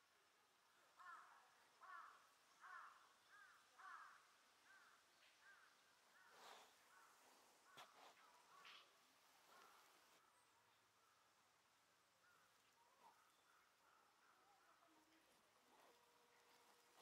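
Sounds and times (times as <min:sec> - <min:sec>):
faint crow cawing: 0:00.8 - 0:10.3, 0:12.2 - 0:17.0.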